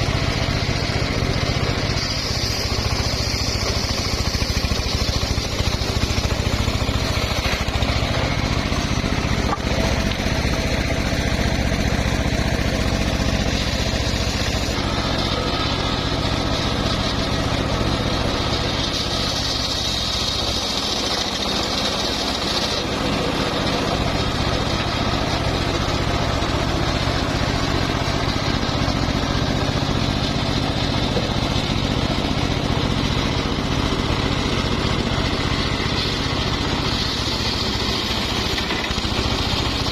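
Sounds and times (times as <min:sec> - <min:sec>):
circular sawmill sawing wood: 0:00.0 - 0:39.9
high-pitched saw whine: 0:00.0 - 0:39.9.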